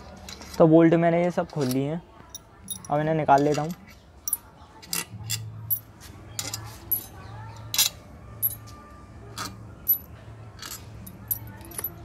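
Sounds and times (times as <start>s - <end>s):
metal bolts clinking in a hand: 1.6s - 8.7s, 9.4s - 12.0s.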